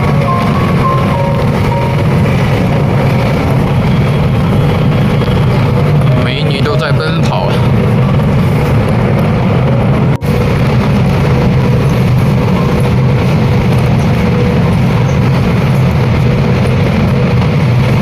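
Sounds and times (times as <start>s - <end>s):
loud low rumble: 0.0s - 18.0s.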